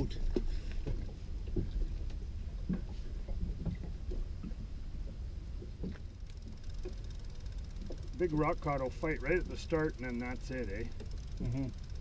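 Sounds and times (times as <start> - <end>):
outboard motor rumbling: 0.0 - 12.0.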